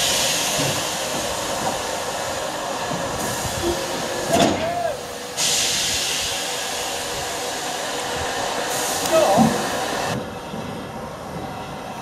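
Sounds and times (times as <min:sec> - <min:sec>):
steam hissing: 0:00.0 - 0:11.4.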